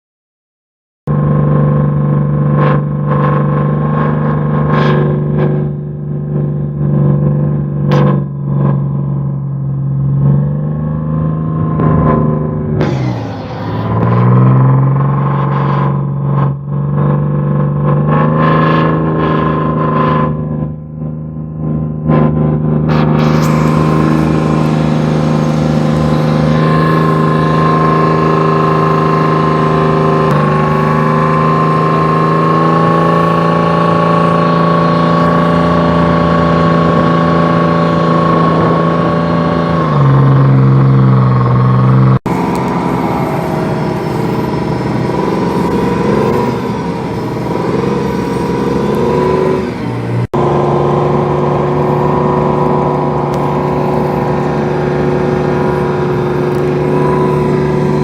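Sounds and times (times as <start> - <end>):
tank engine droning with whine: 1.1 - 58.0.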